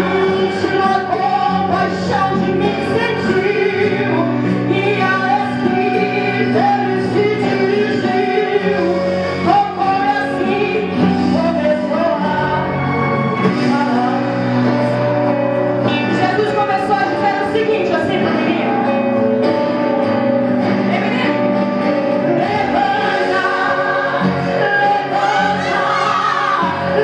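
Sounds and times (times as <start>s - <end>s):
woman singing into a microphone: 0.0s - 12.8s, 13.5s - 15.0s, 15.8s - 19.0s, 22.3s - 27.0s
band with electric guitar: 0.0s - 27.0s.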